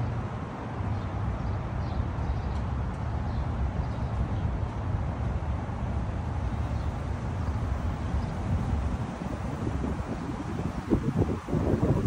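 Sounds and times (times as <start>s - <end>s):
steady low rumble: 2.0s - 12.0s.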